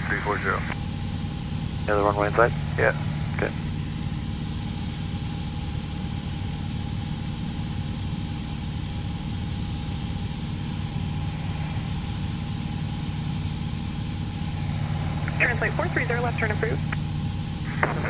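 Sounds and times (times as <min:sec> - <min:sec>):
aircraft engine and propeller droning: 0:00.0 - 0:18.0.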